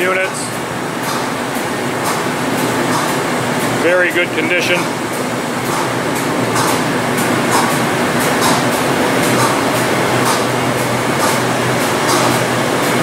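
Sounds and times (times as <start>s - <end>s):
machinery and fan drone: 0.0s - 13.0s.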